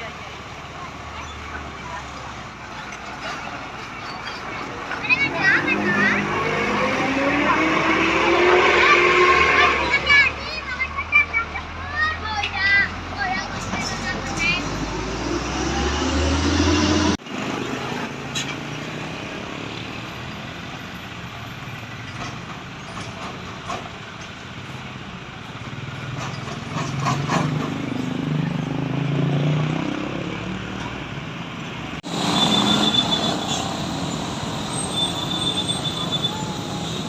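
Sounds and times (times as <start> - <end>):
heavy vehicles passing: 0.0 - 37.0.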